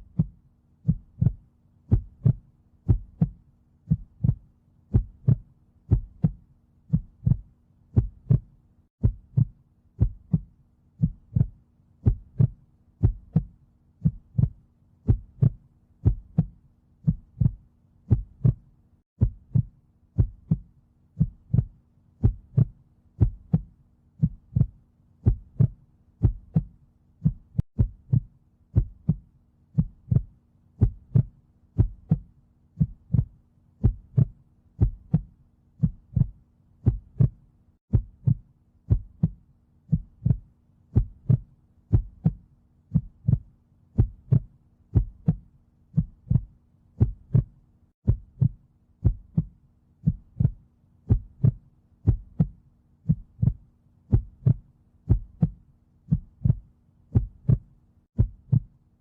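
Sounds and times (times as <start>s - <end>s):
heartbeat pulse: 0.0s - 58.8s.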